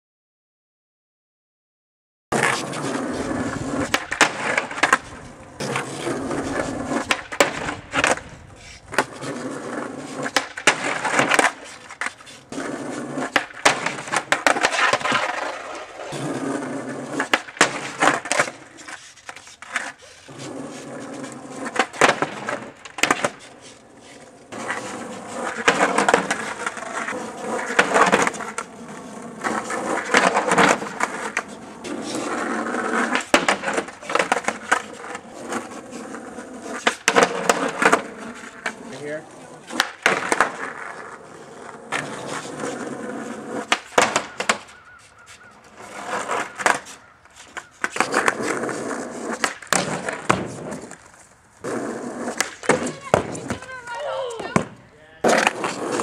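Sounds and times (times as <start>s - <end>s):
skateboard clacks: 2.3s - 56.0s
skateboard wheels rolling on asphalt: 2.3s - 56.0s.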